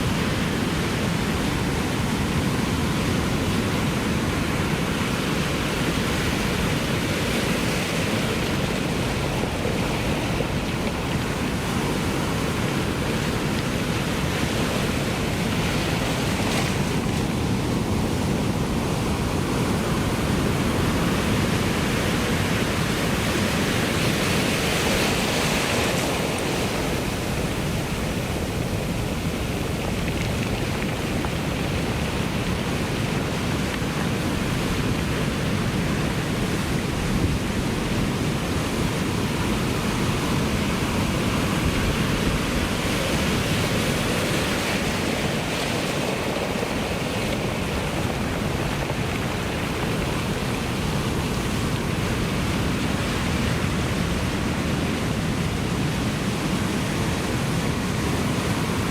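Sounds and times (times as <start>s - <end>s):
ocean waves breaking: 0.0s - 58.9s.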